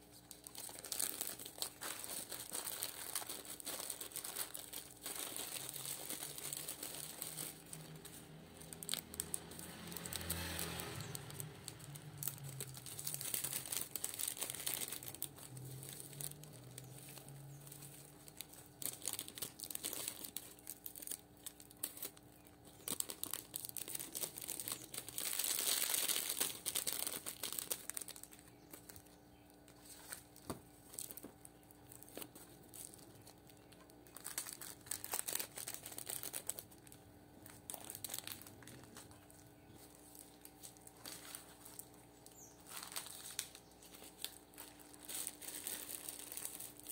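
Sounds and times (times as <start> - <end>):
plastic bags crinkling: 0.0 - 46.9.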